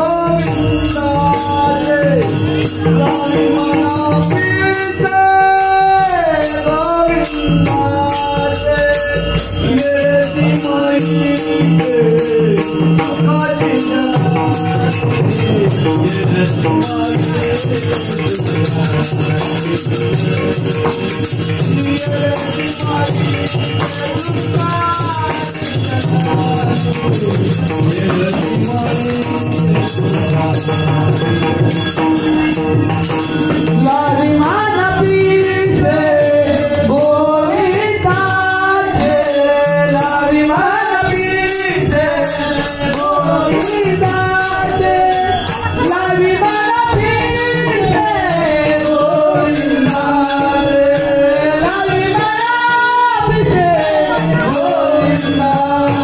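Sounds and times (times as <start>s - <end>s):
devotional singing: 0.0s - 31.4s, 33.4s - 56.0s
hand cymbals clashing: 0.0s - 56.0s.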